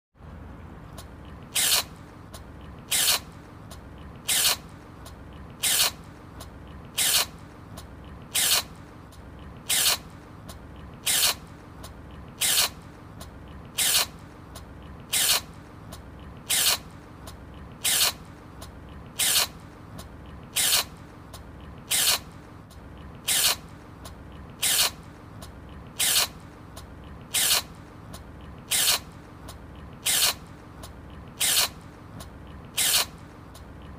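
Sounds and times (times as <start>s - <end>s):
low steady hum: 0.2s - 33.9s.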